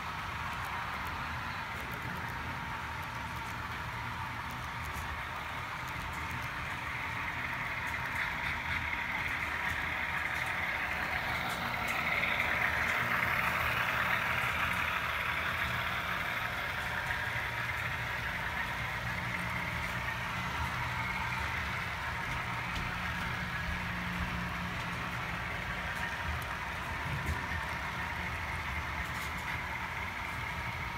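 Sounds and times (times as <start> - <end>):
low motor hum: 0.0 - 30.9
model train wheels rolling on track: 0.0 - 30.9.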